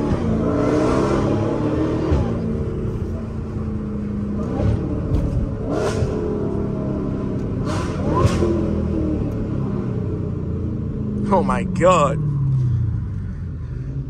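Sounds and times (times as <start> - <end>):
car engine under throttle: 0.0 - 14.0.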